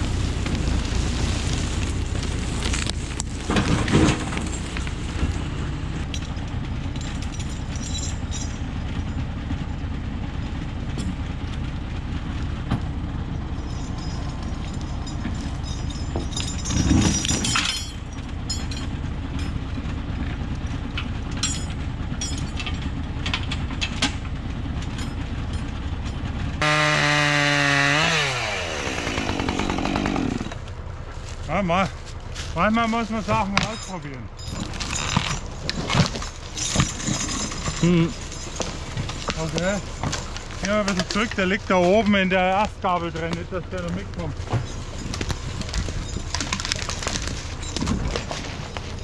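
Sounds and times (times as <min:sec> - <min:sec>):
pitched engine sound: 0:00.0 - 0:49.0
tractor diesel engine running: 0:00.0 - 0:49.0.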